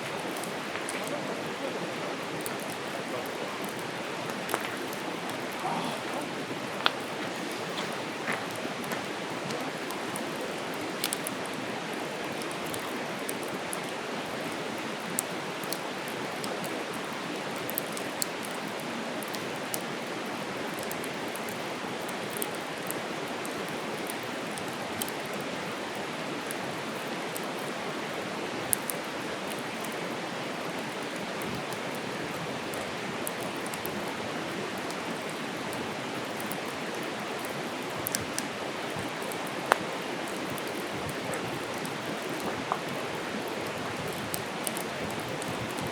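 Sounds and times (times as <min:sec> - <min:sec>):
burning wood crackling and popping: 0:00.0 - 0:45.9
campfire hissing: 0:00.0 - 0:45.9.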